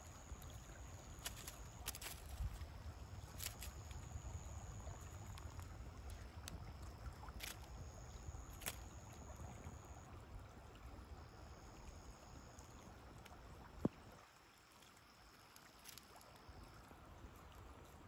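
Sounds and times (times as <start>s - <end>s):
stream trickling: 0.0s - 18.0s.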